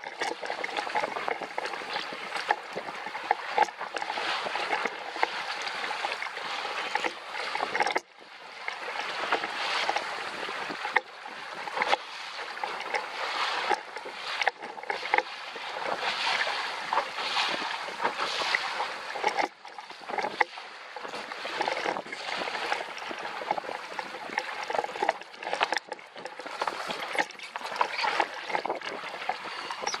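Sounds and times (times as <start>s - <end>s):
water rushing past boat hull: 0.0s - 30.0s.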